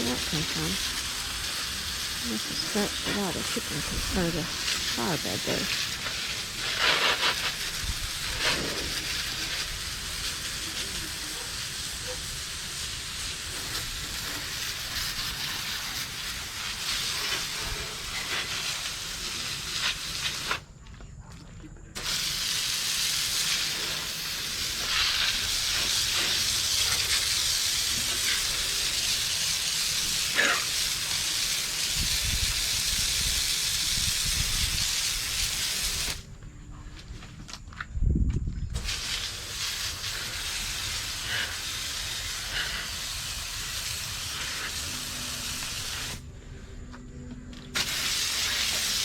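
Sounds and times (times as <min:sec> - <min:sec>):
steady hissing noise: 0:00.0 - 0:49.0.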